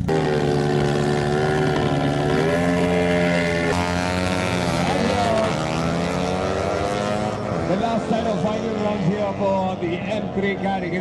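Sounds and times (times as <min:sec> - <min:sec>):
race vehicle engine droning: 0:00.0 - 0:11.0.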